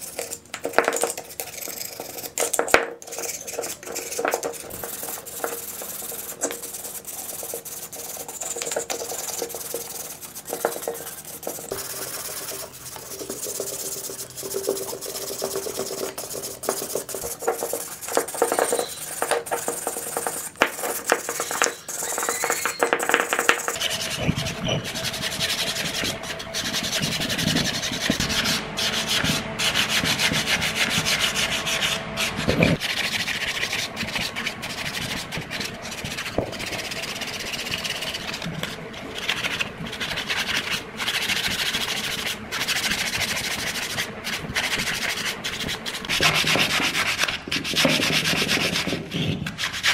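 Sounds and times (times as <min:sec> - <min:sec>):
wire brush scrubbing metal: 0:01.0 - 0:49.0.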